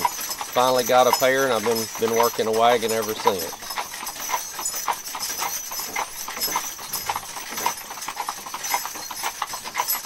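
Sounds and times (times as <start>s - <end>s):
hooves clip-clopping: 0.0s - 10.0s.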